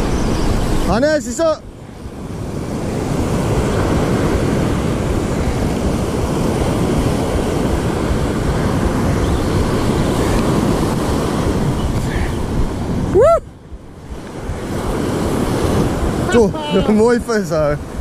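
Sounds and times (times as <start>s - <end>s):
surf breaking on beach: 0.0s - 13.1s, 13.9s - 18.0s
wind buffeting microphone: 0.0s - 18.0s.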